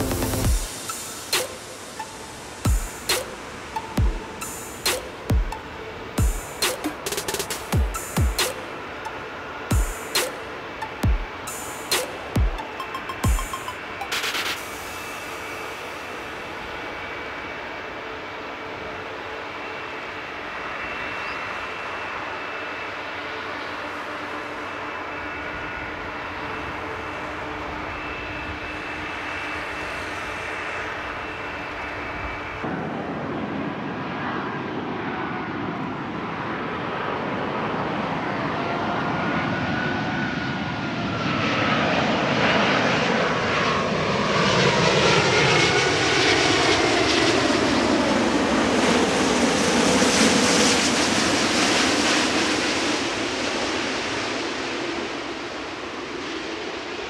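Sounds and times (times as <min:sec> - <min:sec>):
jet engines whining on ground: 0:00.0 - 0:57.0
jet landing engine roar: 0:00.0 - 0:57.0.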